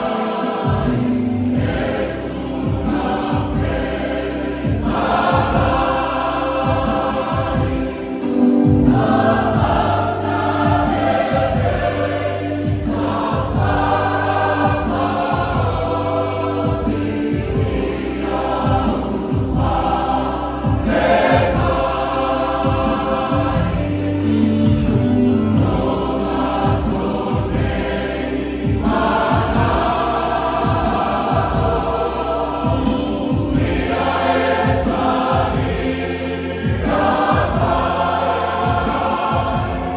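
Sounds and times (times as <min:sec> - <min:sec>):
accompaniment with steady beat: 0:00.0 - 0:39.9
choir singing a hymn: 0:00.0 - 0:39.9.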